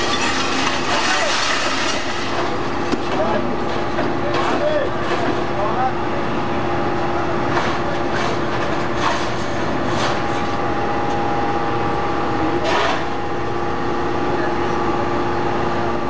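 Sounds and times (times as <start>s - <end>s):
baler machine drone and whine: 0.0s - 16.0s.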